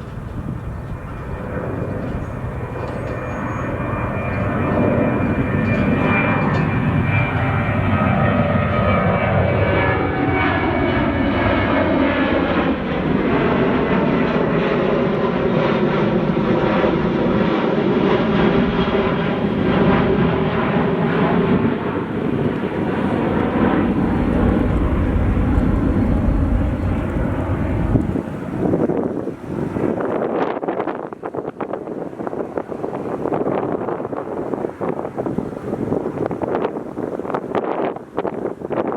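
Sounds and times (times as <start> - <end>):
jet engines rumbling and whining: 0.0 - 38.9.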